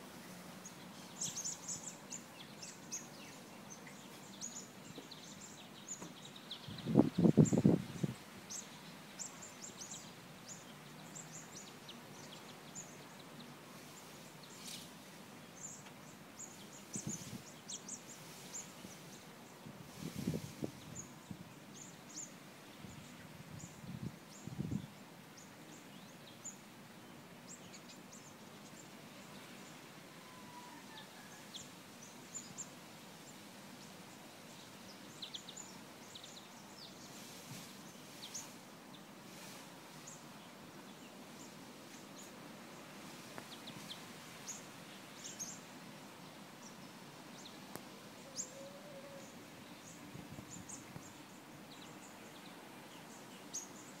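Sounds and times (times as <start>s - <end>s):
birds chirping faintly: 0.0s - 54.0s.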